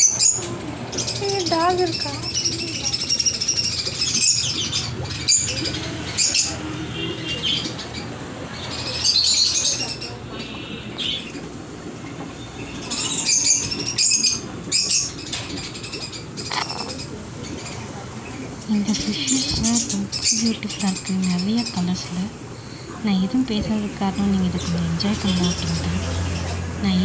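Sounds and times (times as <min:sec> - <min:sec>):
birds chirping and squawking: 0:00.0 - 0:22.9, 0:23.6 - 0:26.8.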